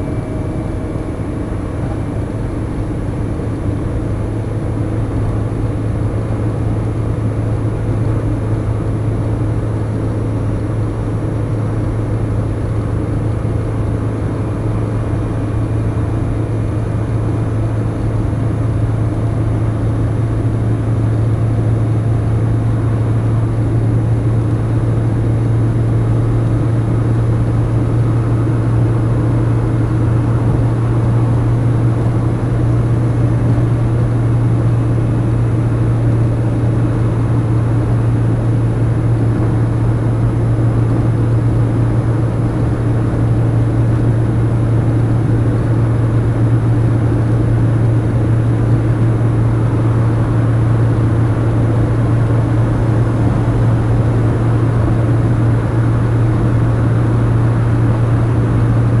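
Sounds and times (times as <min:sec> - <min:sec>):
car cabin road drone: 0:00.0 - 0:59.0.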